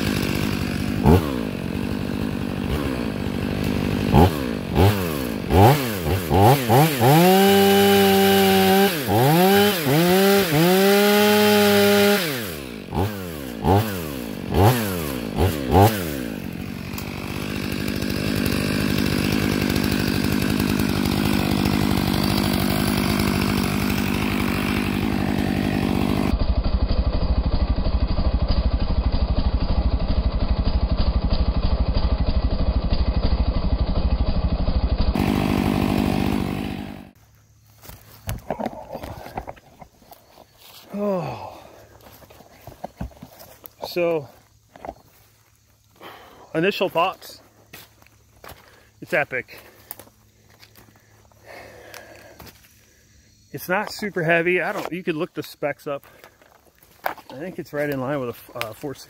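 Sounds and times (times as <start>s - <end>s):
chainsaw cutting wood: 0.0s - 27.0s, 35.0s - 59.0s.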